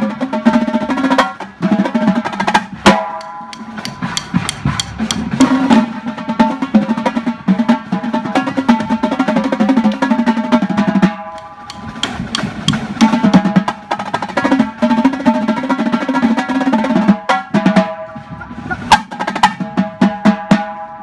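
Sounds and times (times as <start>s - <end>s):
marching tenor drums playing: 0.1s - 20.8s.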